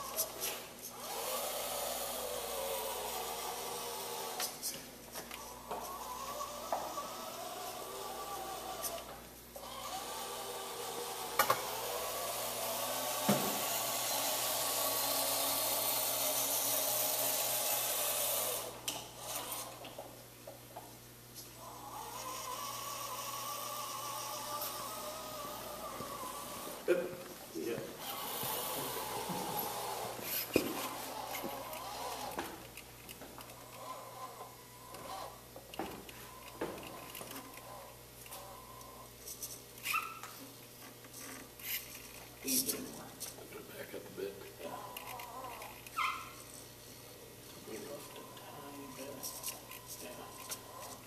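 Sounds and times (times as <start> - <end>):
small electric motors whirring: 0.0 - 20.1, 21.6 - 27.0, 27.6 - 51.0.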